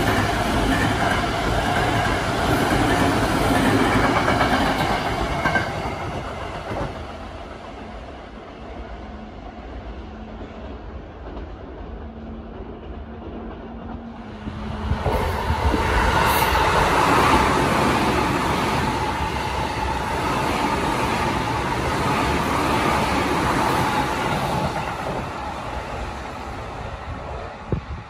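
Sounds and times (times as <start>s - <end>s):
train wheels on rail whining: 0.0s - 28.0s.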